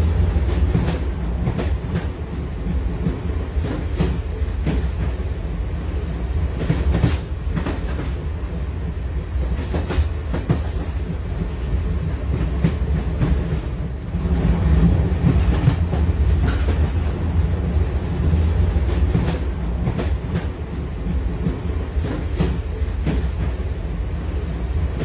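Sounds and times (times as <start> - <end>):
train rumbling along track: 0.0 - 25.0.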